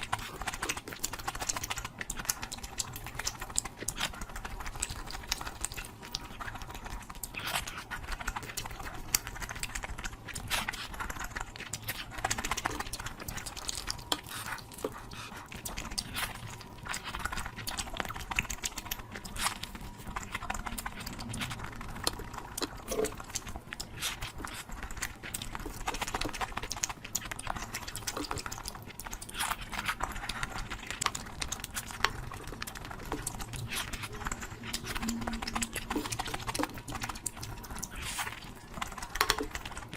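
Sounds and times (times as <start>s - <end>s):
wet chewing and slurping: 0.0s - 39.9s.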